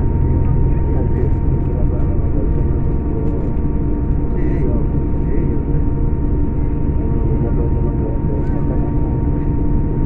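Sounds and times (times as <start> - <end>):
diesel coach engine droning: 0.0 - 10.0.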